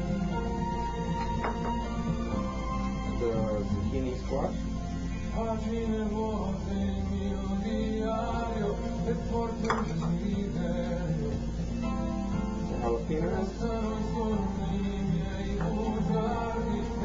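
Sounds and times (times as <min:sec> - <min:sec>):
song with acoustic guitar: 0:00.0 - 0:17.0.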